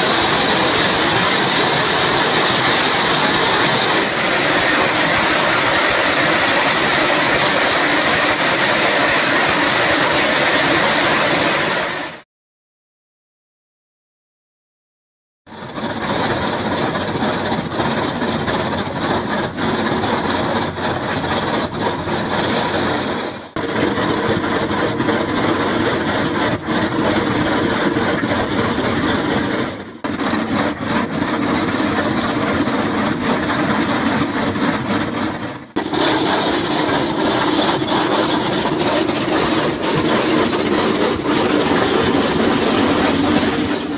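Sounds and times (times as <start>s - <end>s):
trencher chain grinding ground: 0.0s - 11.9s, 15.6s - 43.9s
excavator engine running: 0.0s - 12.2s, 15.5s - 43.9s.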